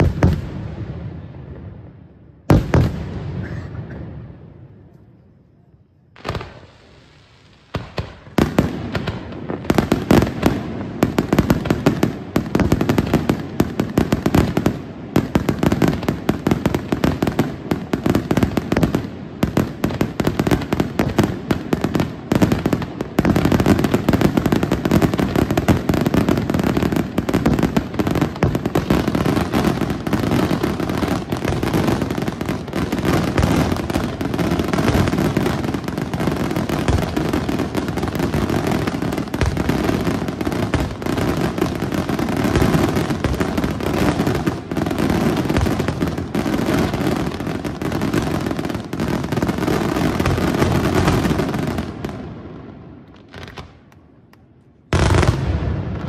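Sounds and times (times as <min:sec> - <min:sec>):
fireworks bursting: 0:00.0 - 0:04.9, 0:06.1 - 0:56.0.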